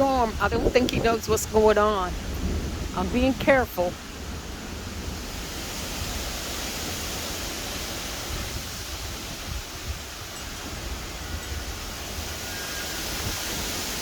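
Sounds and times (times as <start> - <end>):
steady rain: 0.0 - 14.0
wind rumbling on microphone: 0.0 - 14.0.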